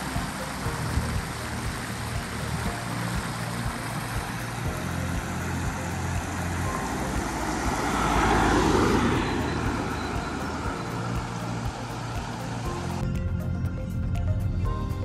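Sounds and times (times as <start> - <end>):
car passing by: 0.0 - 13.0
stream spilling over a weir: 0.0 - 13.1.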